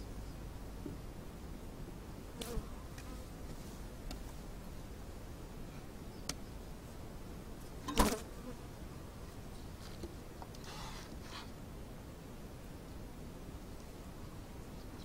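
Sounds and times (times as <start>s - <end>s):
rustle: 0.0s - 15.0s.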